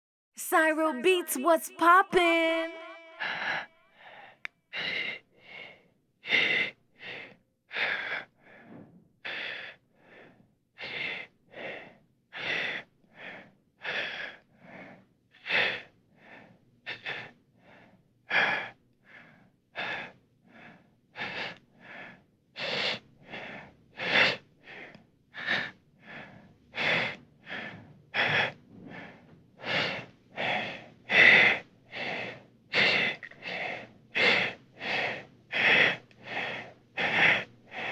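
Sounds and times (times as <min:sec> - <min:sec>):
person panting anxiously: 0:03.2 - 0:37.9.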